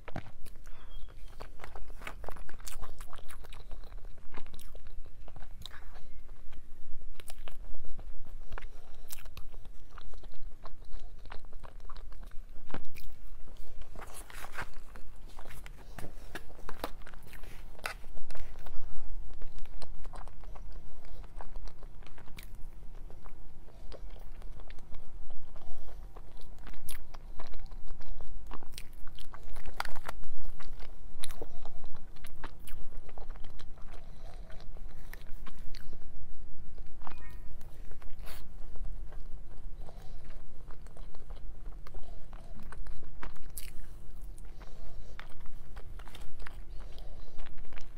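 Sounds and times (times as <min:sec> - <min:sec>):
biting and chewing cake: 0:00.0 - 0:47.9.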